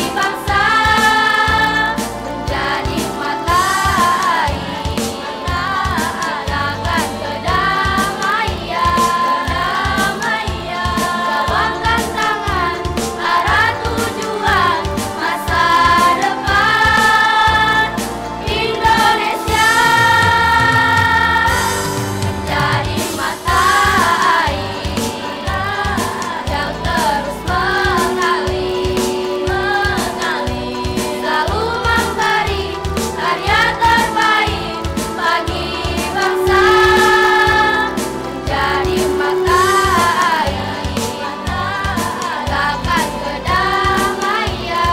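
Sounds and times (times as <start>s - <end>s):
boys' choir singing: 0.0s - 44.9s.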